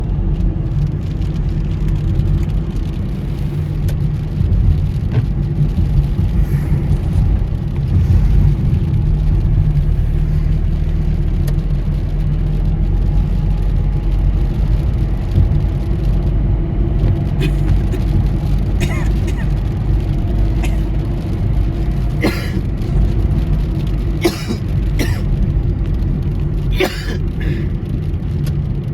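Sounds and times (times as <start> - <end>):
car driving on wet road: 0.0 - 28.9.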